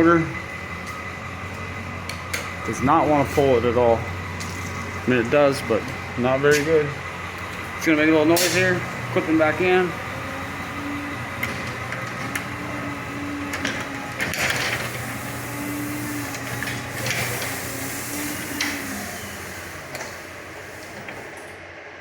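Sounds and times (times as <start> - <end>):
garage door opener motor whirring: 0.0 - 21.8.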